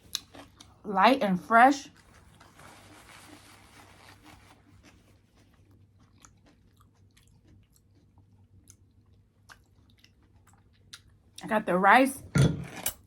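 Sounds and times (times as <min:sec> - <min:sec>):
chewing food with crunches: 0:00.0 - 0:00.9, 0:01.8 - 0:11.5.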